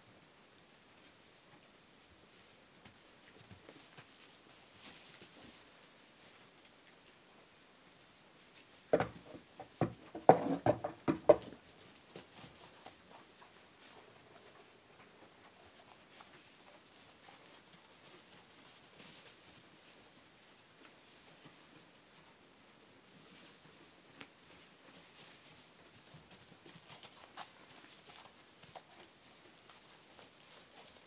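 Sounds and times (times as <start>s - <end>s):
rustling of hay and straw: 0.0s - 31.0s.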